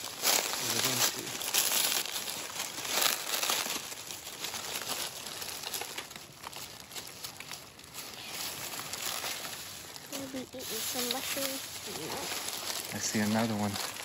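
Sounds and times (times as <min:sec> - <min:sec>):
dry leaves rustling: 0:00.0 - 0:14.0
plastic bag crinkling: 0:00.0 - 0:14.0.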